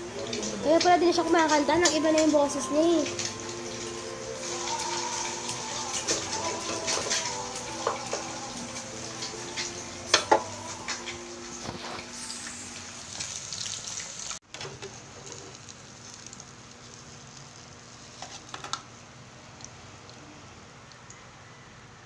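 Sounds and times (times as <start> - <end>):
food sizzling in a pan: 0.0 - 18.6.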